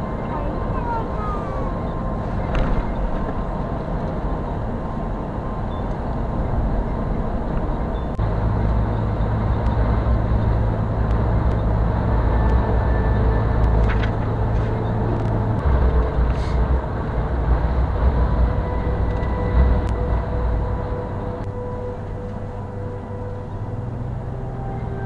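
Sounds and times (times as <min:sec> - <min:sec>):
car interior road and engine noise: 0:00.0 - 0:25.0.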